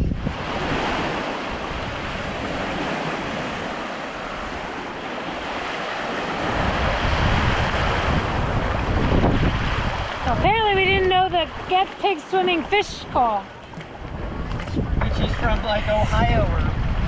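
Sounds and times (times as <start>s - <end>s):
waves washing on beach: 0.0s - 17.0s
wind buffeting microphone: 0.0s - 17.0s.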